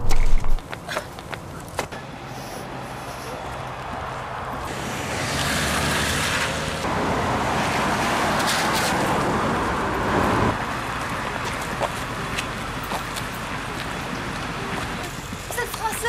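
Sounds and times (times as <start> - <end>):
cars driving past: 0.0 - 15.6.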